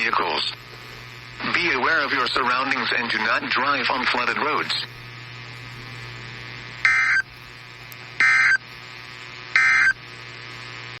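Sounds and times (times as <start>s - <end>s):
radio hiss with low hum: 0.0s - 11.0s.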